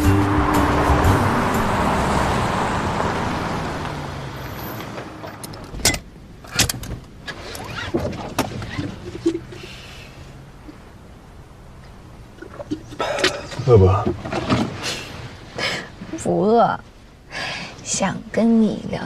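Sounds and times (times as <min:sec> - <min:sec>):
car road noise: 0:00.0 - 0:16.1.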